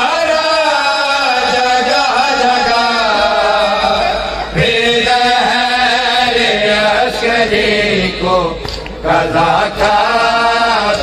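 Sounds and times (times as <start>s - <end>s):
men chanting a lament: 0.0s - 11.0s.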